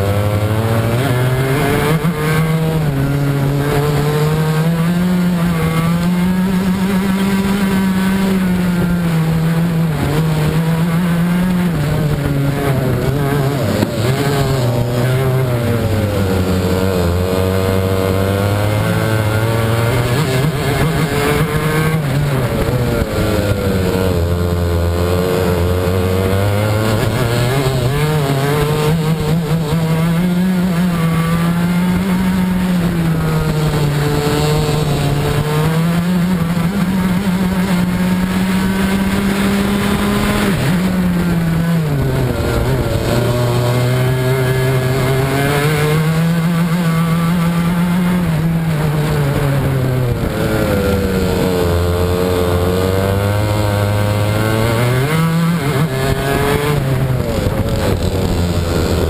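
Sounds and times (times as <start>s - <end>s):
racing kart engine: 0.0s - 59.0s.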